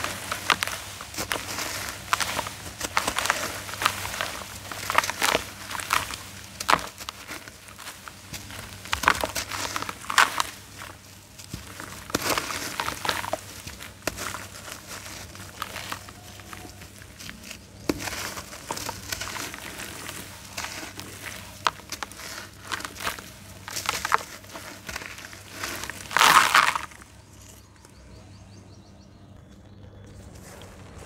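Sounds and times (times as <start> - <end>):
gritty slab crunching and cracking: 0.0 - 31.0.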